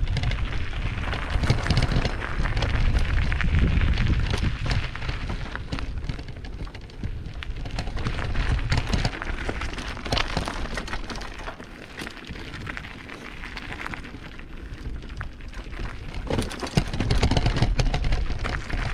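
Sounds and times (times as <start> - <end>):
bike rattling: 0.0 - 18.9
tyres crunching on stones: 0.4 - 18.9.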